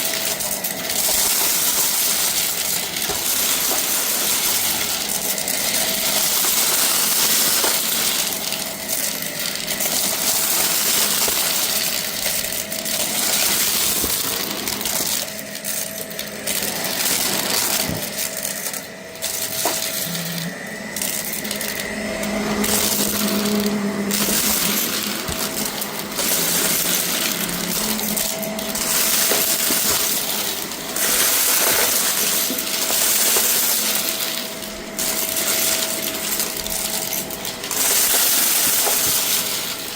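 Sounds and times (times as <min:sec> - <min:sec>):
debris rattling through vacuum: 0:00.0 - 0:39.9
vacuum cleaner running: 0:00.0 - 0:39.9.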